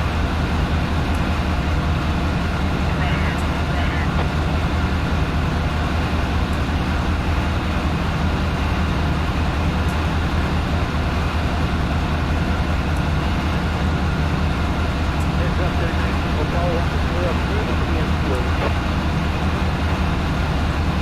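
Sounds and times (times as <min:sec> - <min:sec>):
train diesel engine idling: 0:00.0 - 0:21.0.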